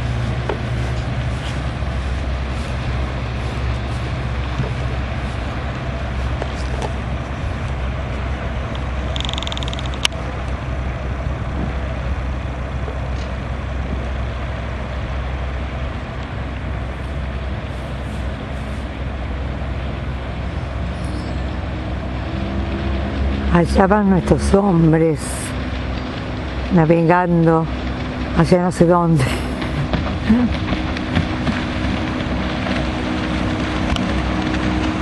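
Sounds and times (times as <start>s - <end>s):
motorboat engine droning: 0.0s - 35.0s.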